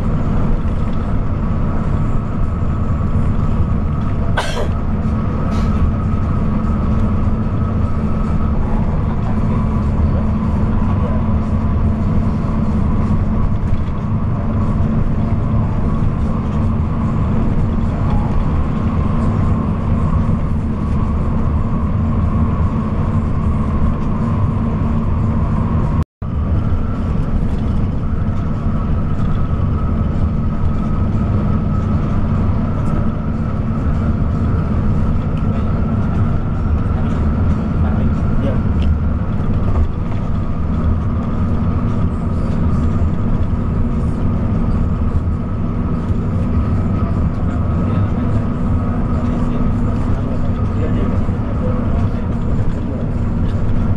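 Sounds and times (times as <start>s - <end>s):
bus engine and road noise: 0.0s - 53.9s
constant whine: 0.0s - 53.9s.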